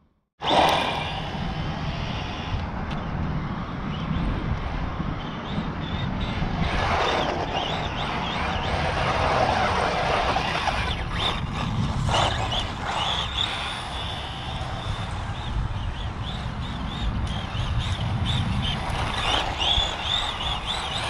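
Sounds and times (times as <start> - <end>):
radio-controlled car motor whine: 0.4 - 3.0, 5.2 - 21.0
tyre noise on asphalt: 0.4 - 21.0.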